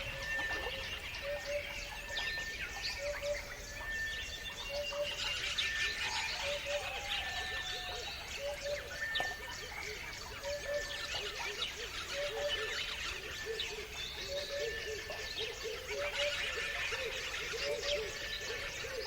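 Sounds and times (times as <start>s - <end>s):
birds chirping and singing: 0.0s - 19.0s.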